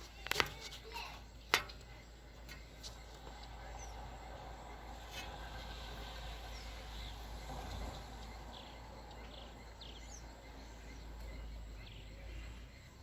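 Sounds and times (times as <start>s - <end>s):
faint bird chirps: 0.0s - 13.0s
low rumble and hiss: 0.0s - 13.0s.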